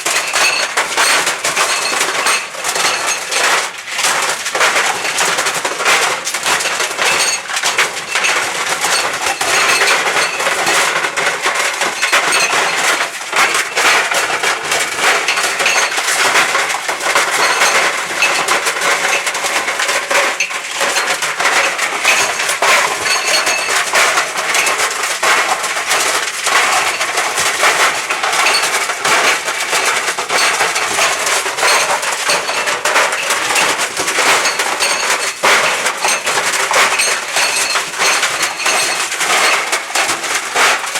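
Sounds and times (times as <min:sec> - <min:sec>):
laptop clattering in tumbling dryer: 0:00.0 - 0:40.9.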